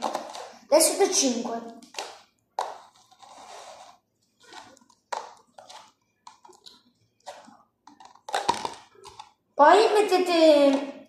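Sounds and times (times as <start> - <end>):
plastic cups clacking and scraping: 0.0 - 11.0.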